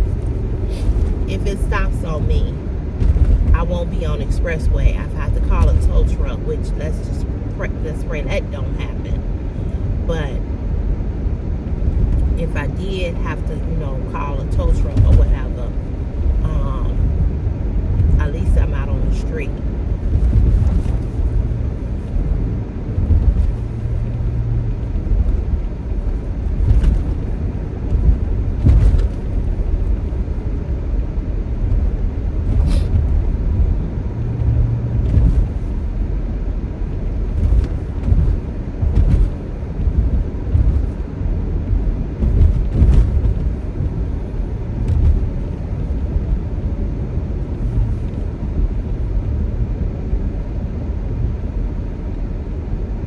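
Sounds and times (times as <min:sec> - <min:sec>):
car interior road and engine rumble: 0:00.0 - 0:53.0.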